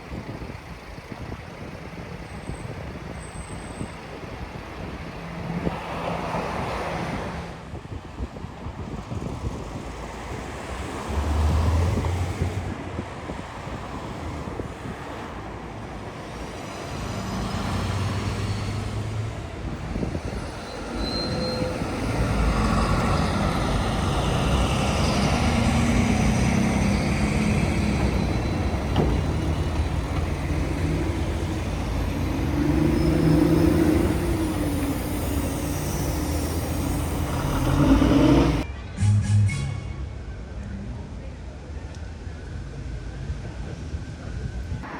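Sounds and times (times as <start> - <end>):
heavy vehicle engine hum: 0.0 - 44.9
passing vehicles: 0.0 - 44.9.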